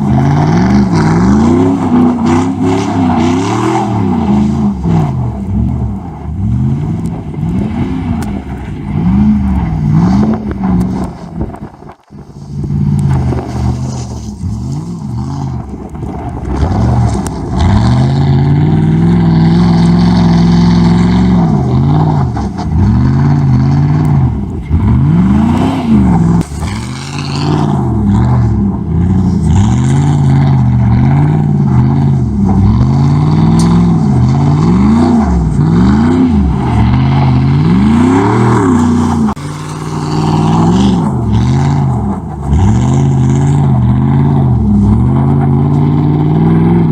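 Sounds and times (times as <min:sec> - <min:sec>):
loud truck engine revving: 0:00.0 - 0:11.2, 0:12.6 - 0:46.9.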